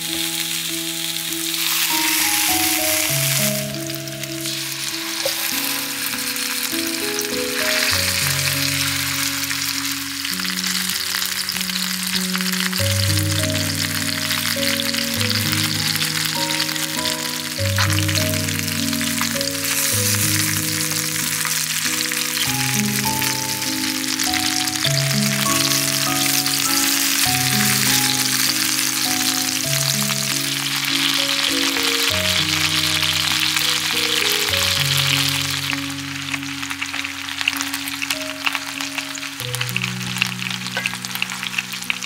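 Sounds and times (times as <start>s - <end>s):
chicken sizzling in oil: 0.0s - 42.0s
slow background music: 0.0s - 42.0s.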